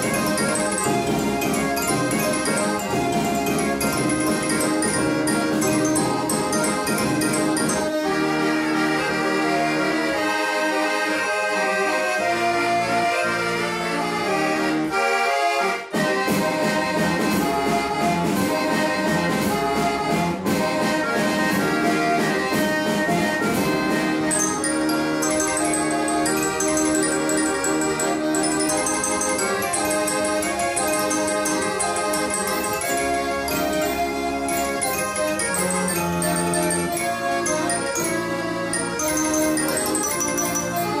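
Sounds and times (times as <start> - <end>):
accordion playing held chords: 0.0 - 41.0.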